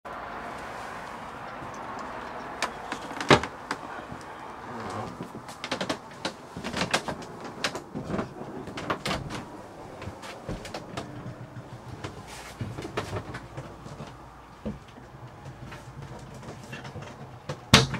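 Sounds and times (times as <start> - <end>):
knocks and clicks of movement: 0.5 - 17.9.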